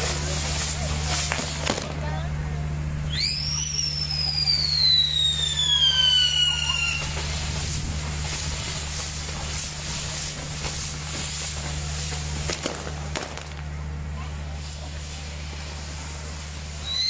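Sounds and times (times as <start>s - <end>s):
whistling firework: 0.0s - 2.0s, 3.0s - 13.7s, 15.3s - 17.0s
pinwheels hissing and crackling: 0.0s - 17.0s.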